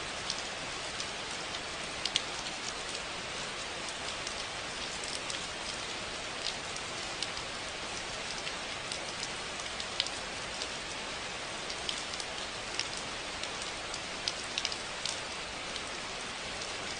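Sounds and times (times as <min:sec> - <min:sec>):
steady rain hiss: 0:00.0 - 0:16.9.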